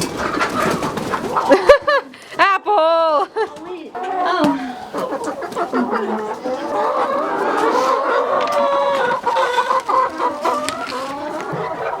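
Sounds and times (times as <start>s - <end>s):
chickens clucking: 0.0s - 2.7s, 3.4s - 12.0s.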